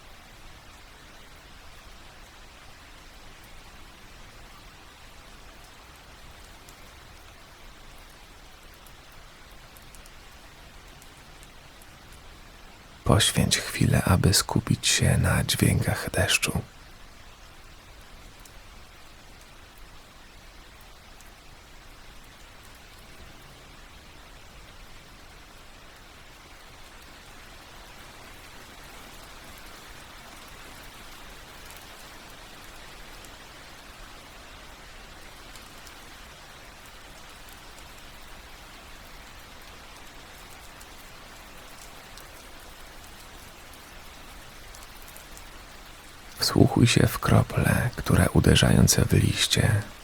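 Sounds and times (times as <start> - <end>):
rain falling on leaves: 0.0 - 13.0, 16.8 - 46.4.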